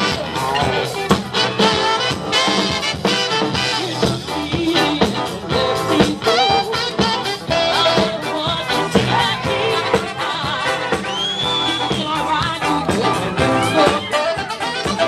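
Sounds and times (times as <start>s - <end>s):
swing band music: 0.0s - 15.0s.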